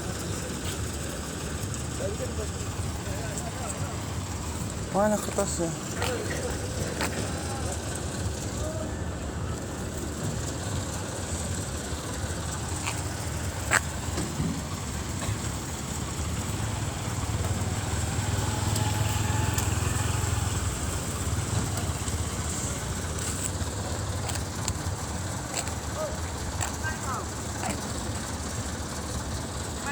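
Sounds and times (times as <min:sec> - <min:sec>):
low engine rumble: 0:00.0 - 0:29.9.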